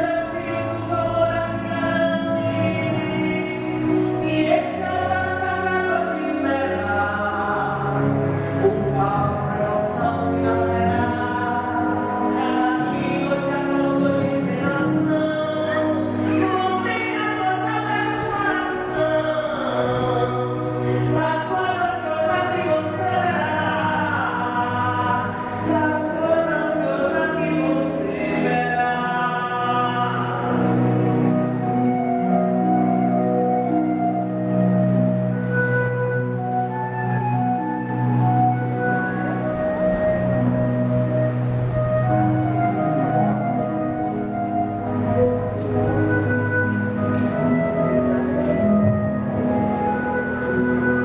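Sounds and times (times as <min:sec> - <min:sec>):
music: 0:00.0 - 0:51.0.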